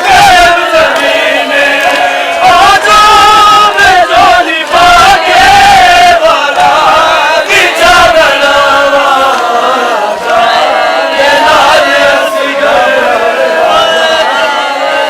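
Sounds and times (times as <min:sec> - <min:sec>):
group chanting a lament: 0:00.0 - 0:15.0.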